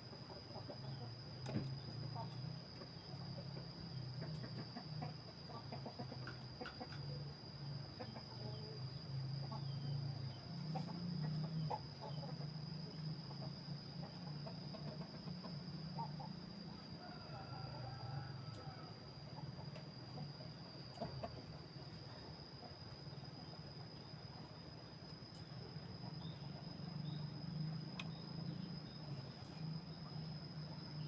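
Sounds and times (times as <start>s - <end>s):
steady high whine: 0.0s - 31.0s.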